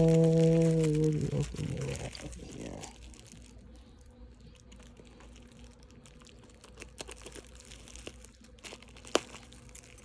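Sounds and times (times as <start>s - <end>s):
package being opened: 0.0s - 3.7s, 4.4s - 10.0s
low steady hum: 0.0s - 10.0s.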